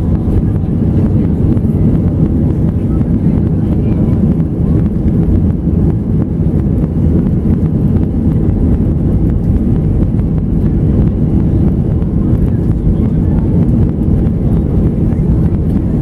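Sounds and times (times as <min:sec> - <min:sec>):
airframe rumbling on the ground: 0:00.0 - 0:16.0
jet engines at low thrust: 0:00.0 - 0:16.0.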